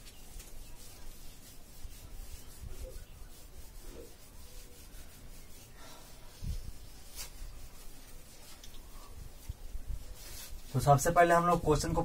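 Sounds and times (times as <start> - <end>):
hand rubbing whiteboard: 0.0 - 11.1.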